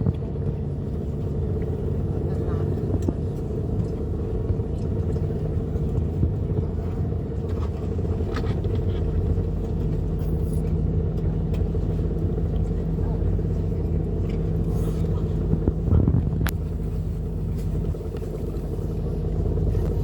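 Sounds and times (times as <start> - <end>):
cabin ventilation rumble and hum: 0.0 - 20.0.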